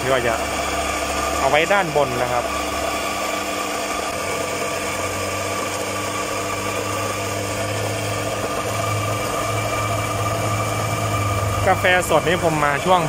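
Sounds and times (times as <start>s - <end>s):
coffee grinder motor humming: 0.0s - 13.0s.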